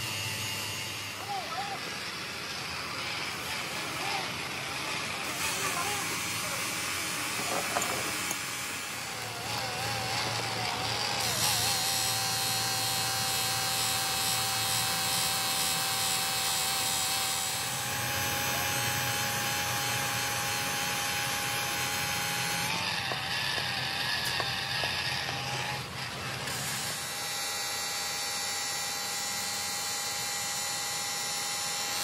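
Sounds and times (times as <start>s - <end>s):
grinder motor whine: 0.0s - 32.0s.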